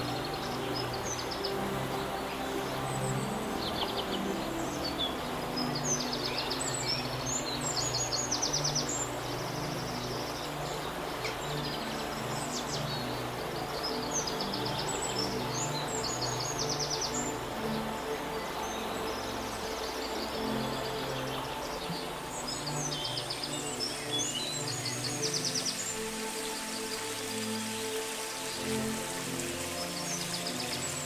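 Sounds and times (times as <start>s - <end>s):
flowing water: 0.0s - 31.0s
soft slow calming music: 0.0s - 31.0s
songbirds singing: 0.0s - 31.0s.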